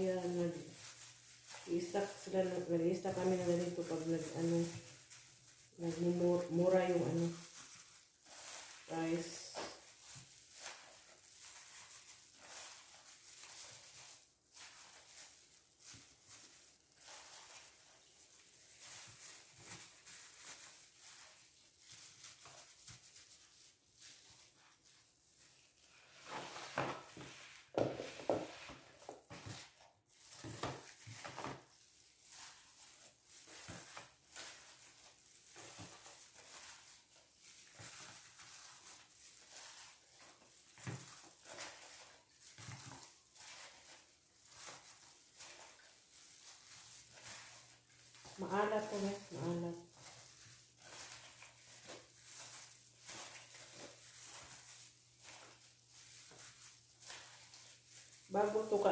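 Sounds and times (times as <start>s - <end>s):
knocks and rustles of handling: 0.2s - 58.9s.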